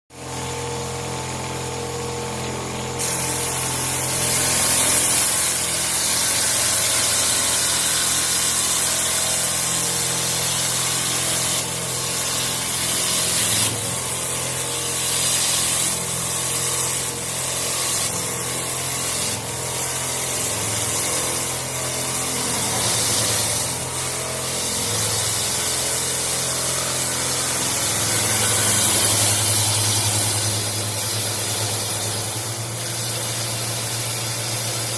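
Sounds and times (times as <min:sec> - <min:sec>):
cutter shaving wood hiss: 0:00.2 - 0:34.9
lathe motor hum: 0:00.2 - 0:34.9.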